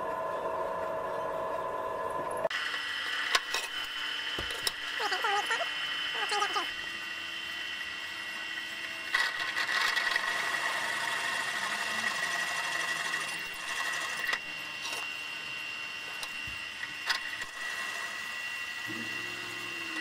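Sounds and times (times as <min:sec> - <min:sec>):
drill press motor whine: 0:00.0 - 0:20.0
drill bit cutting metal: 0:02.5 - 0:20.0.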